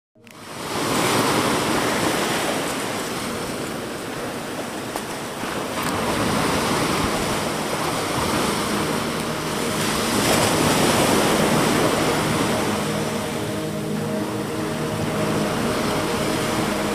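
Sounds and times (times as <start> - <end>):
waves washing onto sandy beach: 0.3 - 16.9.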